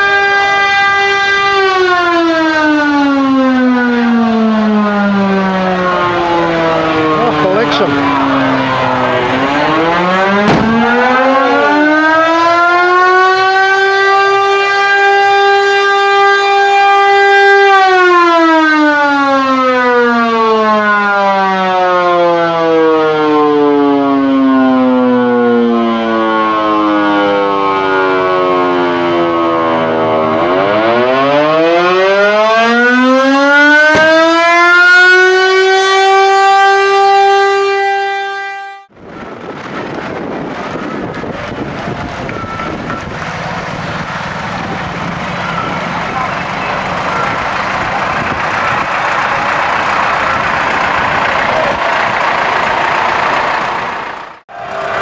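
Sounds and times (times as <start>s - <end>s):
siren wailing: 0.0s - 55.0s.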